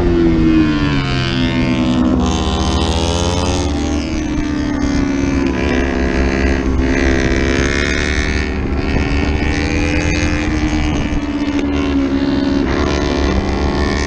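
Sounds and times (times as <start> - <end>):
motorcycle engine at high revs: 0.0 - 14.0
wind noise: 0.0 - 14.0.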